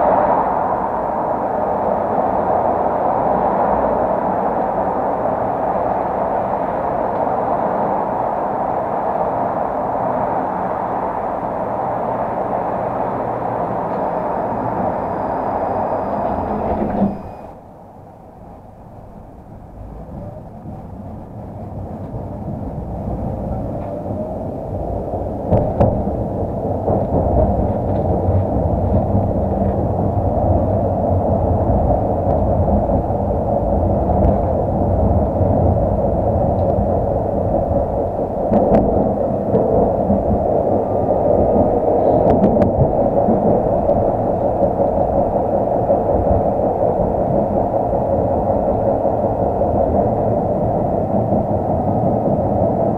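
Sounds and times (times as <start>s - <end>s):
tram wheels and motor rumbling: 0.0s - 52.9s.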